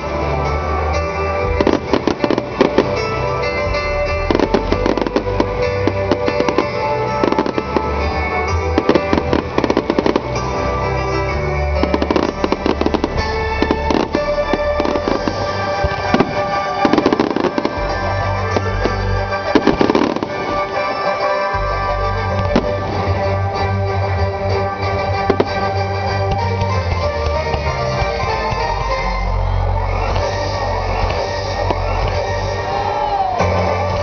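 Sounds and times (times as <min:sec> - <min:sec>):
fireworks bangs and crackles: 0:00.0 - 0:34.0
music playing: 0:00.0 - 0:34.0.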